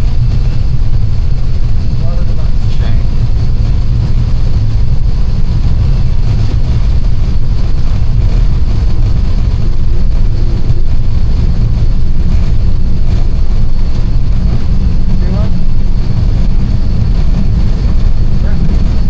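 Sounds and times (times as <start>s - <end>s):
airliner cabin engine rumble: 0.0s - 19.0s
faint steady whine: 0.0s - 19.0s.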